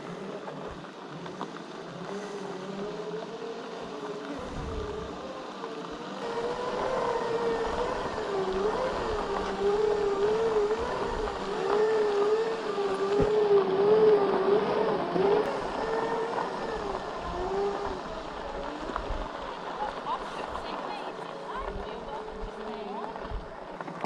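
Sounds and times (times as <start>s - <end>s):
electric drive whining: 0.0s - 19.8s.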